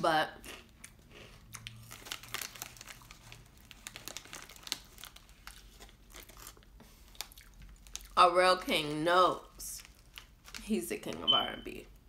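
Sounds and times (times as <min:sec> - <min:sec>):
plastic chip bag crinkling: 0:00.6 - 0:08.8, 0:09.4 - 0:11.9.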